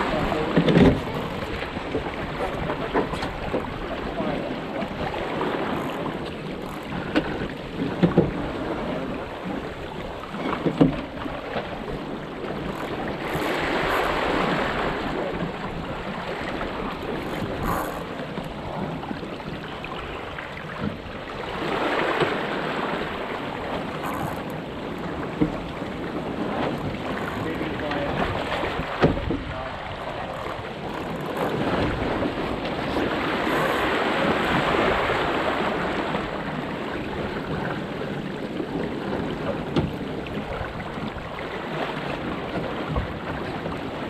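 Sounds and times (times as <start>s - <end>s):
boat knocks: 0.0s - 44.0s
water rushing along hull: 0.0s - 44.0s
wind buffeting microphone: 0.0s - 44.0s.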